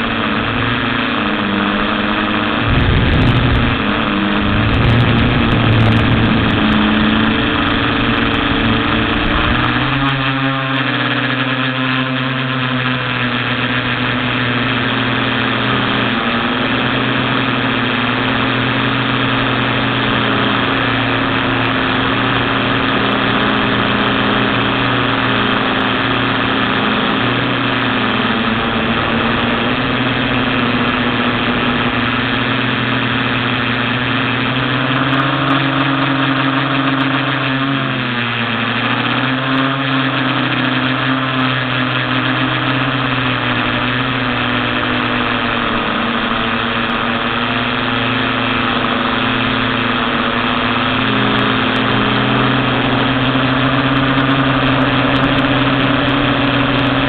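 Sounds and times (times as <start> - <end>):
quadcopter motors droning: 0.0 - 57.0
wind rumbling on microphone: 0.0 - 57.0.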